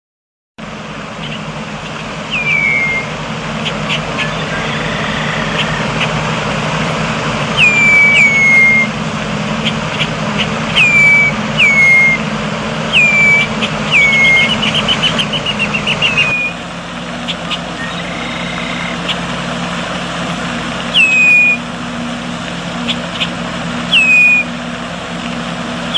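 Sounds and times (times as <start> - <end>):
low mechanical hum: 0.6 - 25.9
blackbird calling: 1.1 - 6.4, 7.4 - 20.0, 20.6 - 21.7, 22.7 - 24.6.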